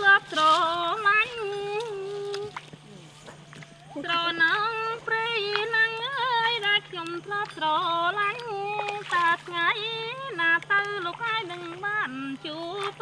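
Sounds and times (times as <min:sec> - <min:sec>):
woman singing high: 0:00.0 - 0:02.6, 0:03.9 - 0:13.0
faint low hum: 0:00.0 - 0:13.0.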